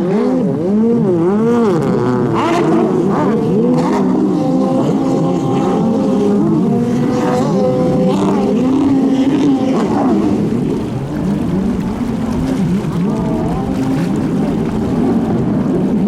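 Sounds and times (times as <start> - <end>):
jet ski engines revving: 0.0 - 16.0.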